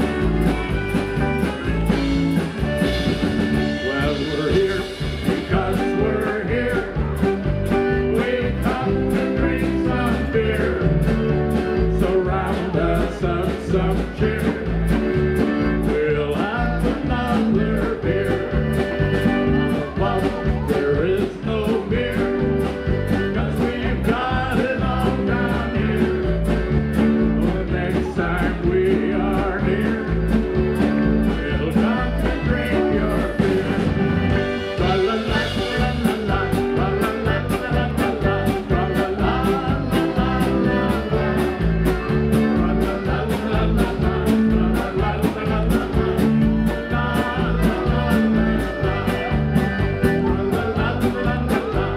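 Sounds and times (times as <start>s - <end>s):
accordion: 0.0s - 51.9s
drums beating: 0.0s - 51.9s
man singing into a microphone: 3.5s - 51.9s.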